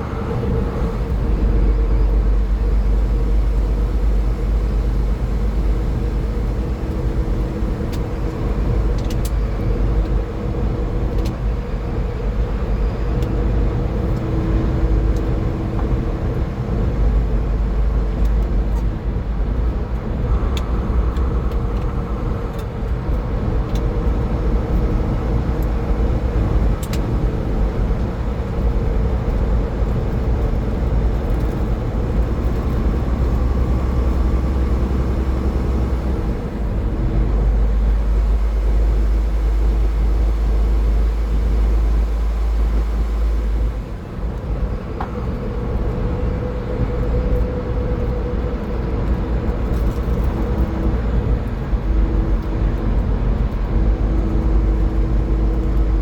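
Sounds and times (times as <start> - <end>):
faint engine hum: 0.0 - 56.0
tyres rumbling on road: 0.0 - 56.0.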